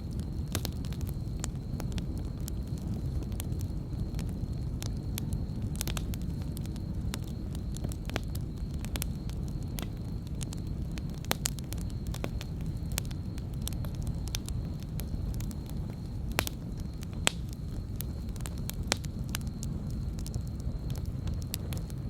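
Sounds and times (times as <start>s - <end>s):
logs crackling and popping: 0.0s - 22.0s
low fire rumble: 0.0s - 22.0s.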